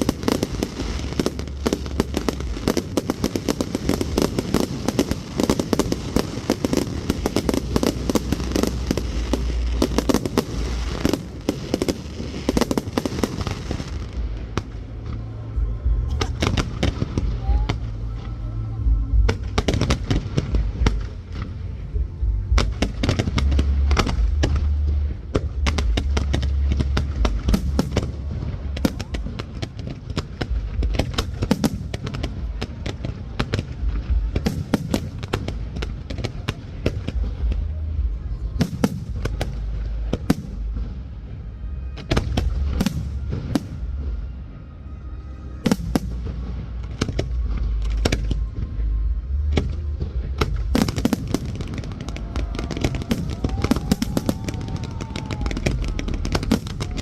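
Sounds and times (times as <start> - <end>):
fireworks bangs and crackling: 0.0 - 57.0
low rumble: 0.0 - 57.0.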